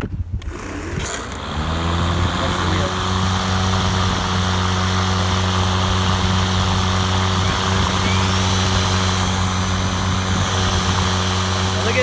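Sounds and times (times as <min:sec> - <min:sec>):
electric lawn mower whirring: 0:00.3 - 0:12.0.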